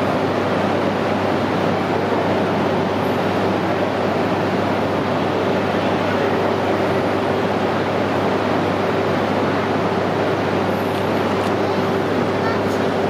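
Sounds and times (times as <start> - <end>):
train blowers whooshing hum: 0.0 - 13.0.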